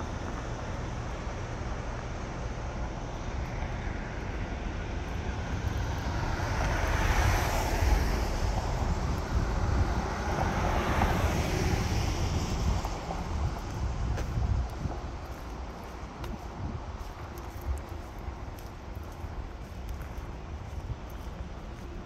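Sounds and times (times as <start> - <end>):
cars passing: 0.0 - 22.0
low traffic rumble: 0.0 - 22.0.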